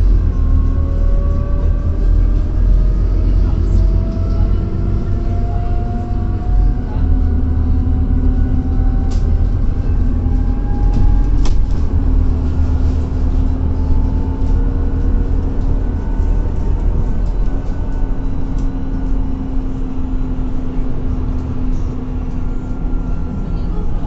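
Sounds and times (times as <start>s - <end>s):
bus engine and road rumble: 0.0s - 24.0s
drivetrain whine: 0.0s - 24.0s.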